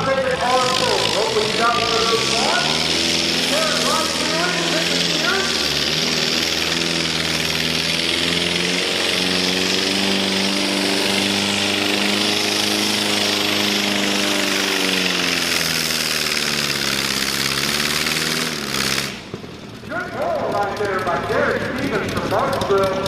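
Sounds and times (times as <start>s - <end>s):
tractor engine under heavy load: 0.0s - 23.0s.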